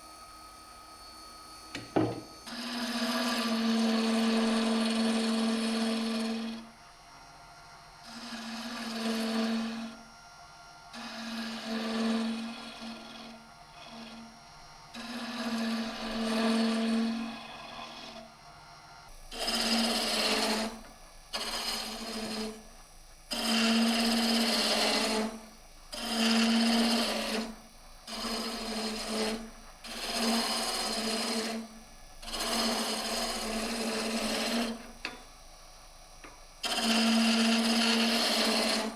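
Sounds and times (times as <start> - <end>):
lathe tool rasping on wood: 1.8 - 6.7, 8.0 - 10.1, 10.8 - 18.4, 19.1 - 35.2, 36.2 - 38.9.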